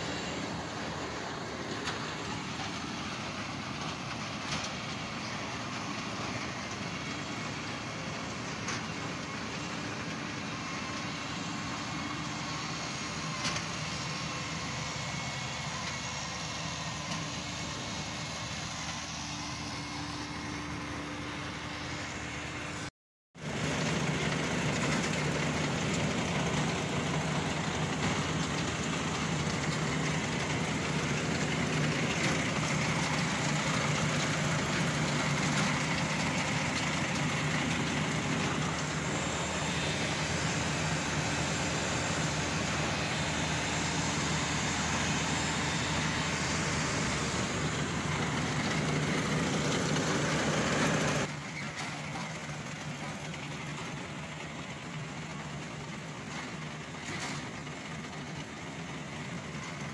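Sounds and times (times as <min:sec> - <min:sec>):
tractor diesel engine and cutter hum: 0:00.0 - 0:59.9.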